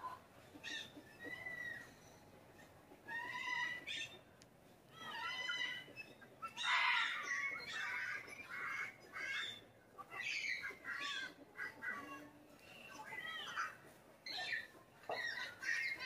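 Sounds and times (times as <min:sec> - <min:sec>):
parrot squawking and chattering: 0:00.4 - 0:04.2, 0:05.0 - 0:12.4, 0:13.0 - 0:16.0.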